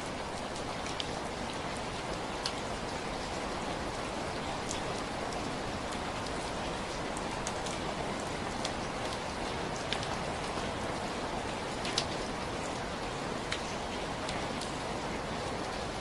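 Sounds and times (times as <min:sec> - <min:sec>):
raindrops ticking on a surface: 0:00.0 - 0:16.0
steady rain hiss: 0:00.0 - 0:16.0.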